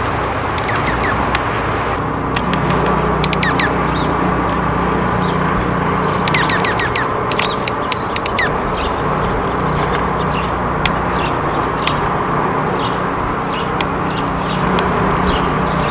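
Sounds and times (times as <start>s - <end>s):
low background rumble: 0.0s - 15.9s
small birds chirping: 0.0s - 15.9s.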